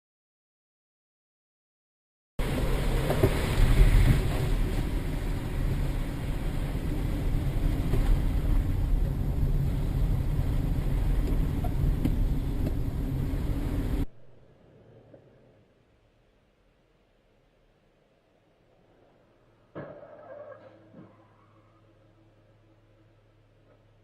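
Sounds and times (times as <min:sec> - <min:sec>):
car engine and road rumble: 0:02.4 - 0:24.0.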